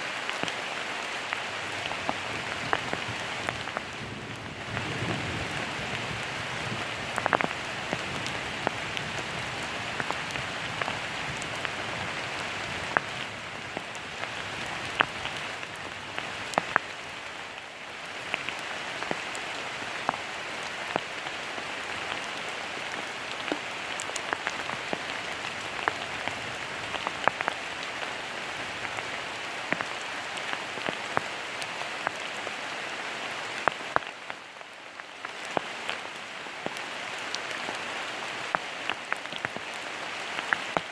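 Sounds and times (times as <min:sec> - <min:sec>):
rain falling: 0:00.0 - 0:40.9
raindrops ticking close by: 0:00.0 - 0:40.9.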